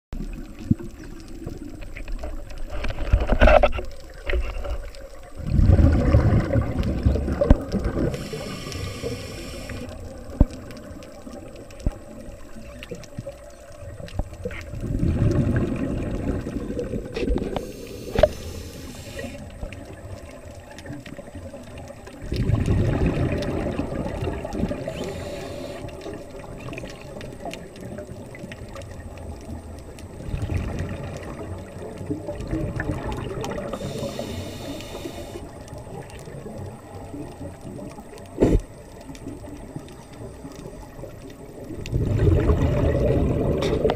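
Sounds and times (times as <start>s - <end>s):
underwater air bubbles gurgling: 0.2s - 43.9s
faint hiss: 0.3s - 14.7s, 16.0s - 22.2s, 23.5s - 28.8s, 31.6s - 41.9s.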